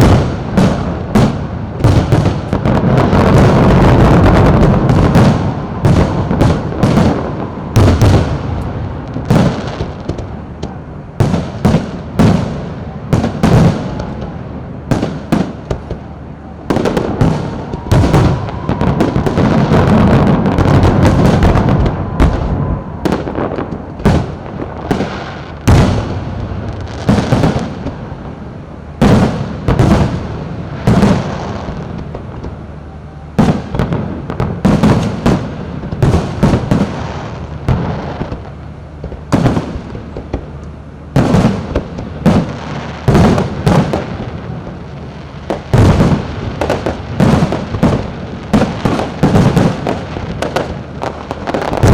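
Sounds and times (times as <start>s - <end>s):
fireworks bangs with rumbling echo: 0.0s - 51.9s.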